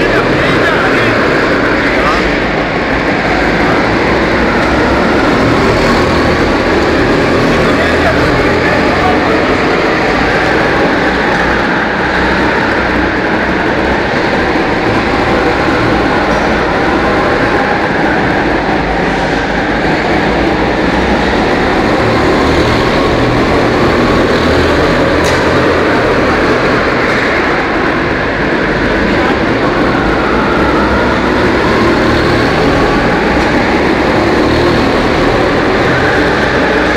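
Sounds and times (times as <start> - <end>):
go-kart engines droning: 0.0 - 36.9.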